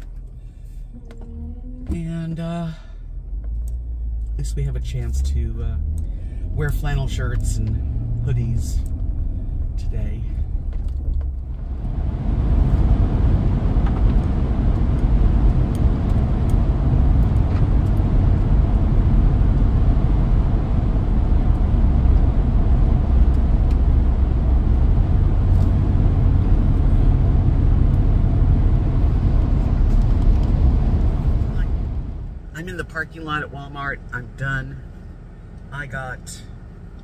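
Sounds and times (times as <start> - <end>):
truck road and engine rumble: 0.0 - 37.0.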